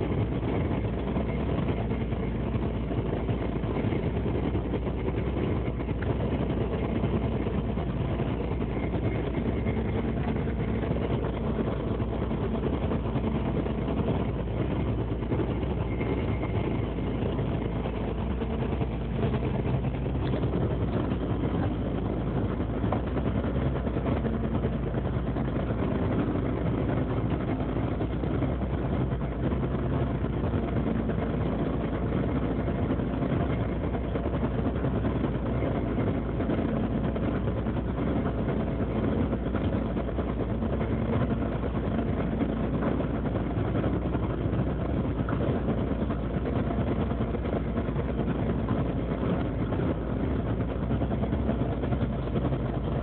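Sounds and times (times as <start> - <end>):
boat engine low hum: 0.0 - 53.0.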